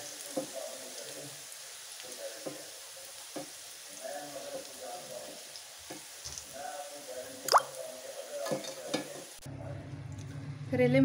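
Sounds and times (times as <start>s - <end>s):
slices sizzling in oil: 0.0s - 9.4s.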